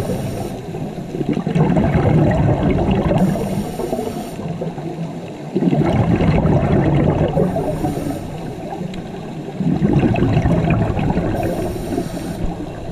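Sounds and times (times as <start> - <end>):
regulator bubbles gurgling underwater: 0.0 - 12.9.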